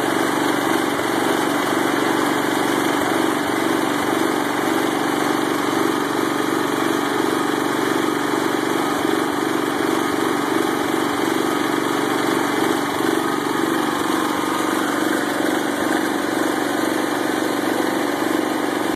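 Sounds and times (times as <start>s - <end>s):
garden tractor engine running: 0.0s - 18.9s.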